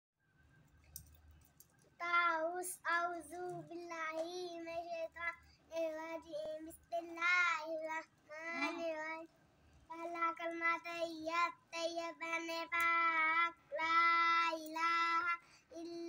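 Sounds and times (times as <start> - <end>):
young girl singing: 2.0 - 9.3, 9.9 - 16.0.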